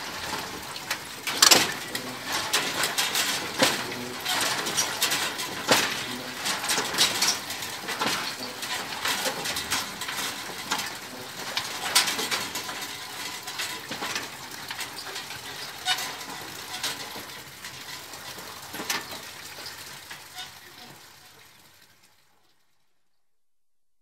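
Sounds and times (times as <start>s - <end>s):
windmill mechanism clacking: 0.0s - 22.7s.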